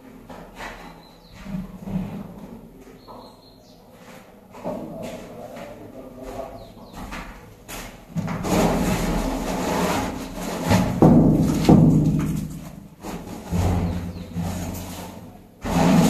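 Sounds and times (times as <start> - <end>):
wooden stepladder scraping and knocking: 0.0 - 3.3, 4.0 - 16.0.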